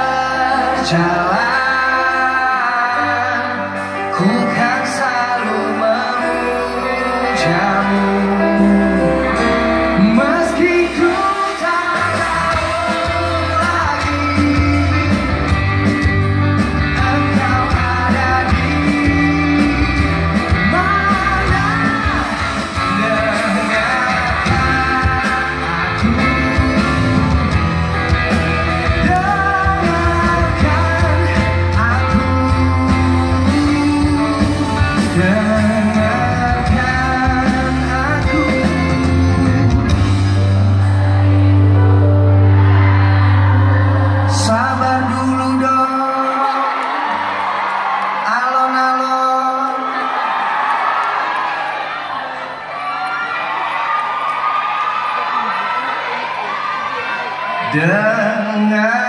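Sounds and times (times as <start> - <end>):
man singing: 0.0 - 47.2, 48.1 - 50.0, 57.6 - 59.0
live rock band playing ballad: 0.0 - 51.6.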